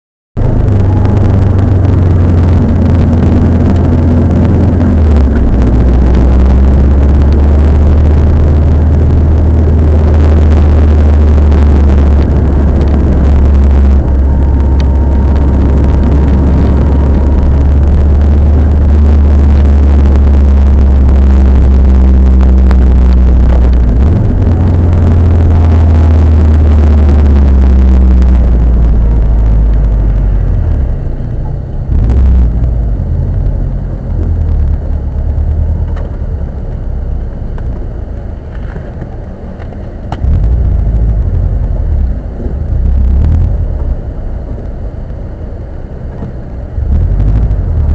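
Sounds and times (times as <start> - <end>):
car low droning noise: 0.4 - 47.9.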